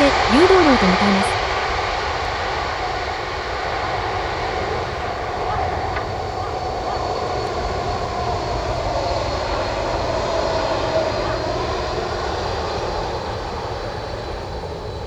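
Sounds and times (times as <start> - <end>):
jet engines running: 2.0 - 15.0.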